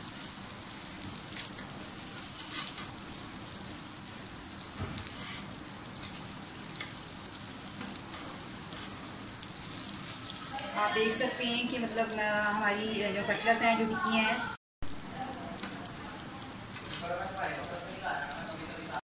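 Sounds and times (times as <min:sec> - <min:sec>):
cutlets sizzling in oil: 0:00.0 - 0:19.0.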